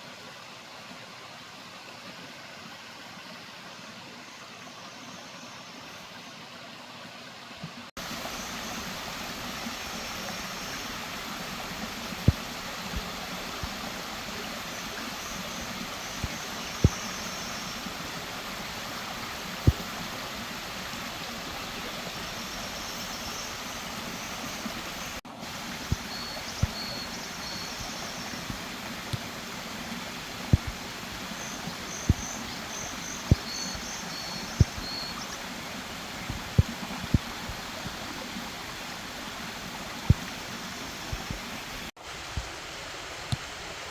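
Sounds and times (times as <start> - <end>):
stream rushing: 6.1 - 43.9.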